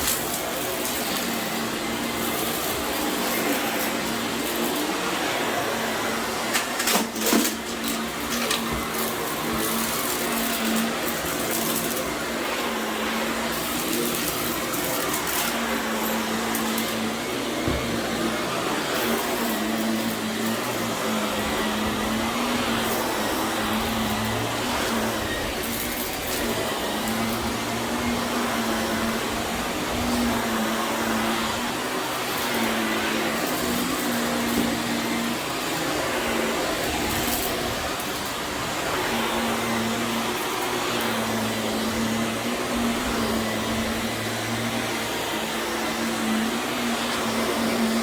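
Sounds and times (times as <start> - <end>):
debris crackling up vacuum: 0.0 - 48.0
vacuum cleaner motor hum: 0.0 - 48.0.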